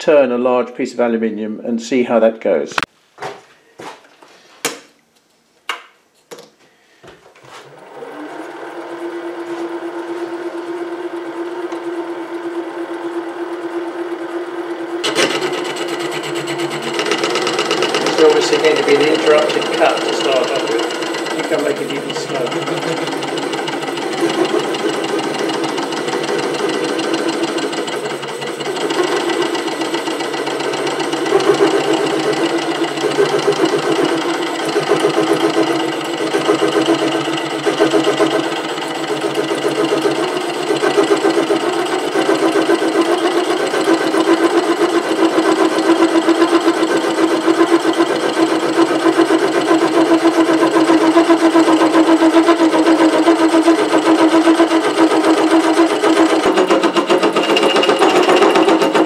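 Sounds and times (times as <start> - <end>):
lathe cutting metal with chatter: 10.5 - 59.0.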